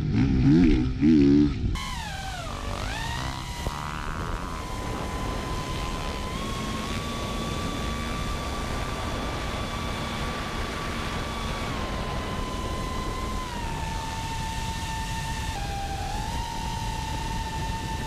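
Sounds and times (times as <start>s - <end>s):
drone propellers whining: 0.8s - 18.0s
wind-like noise: 0.8s - 18.0s.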